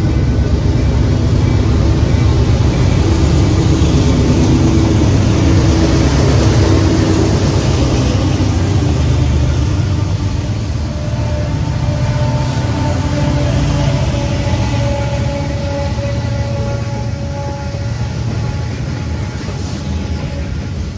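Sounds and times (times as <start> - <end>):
diesel locomotive engine rumble: 0.0 - 20.9.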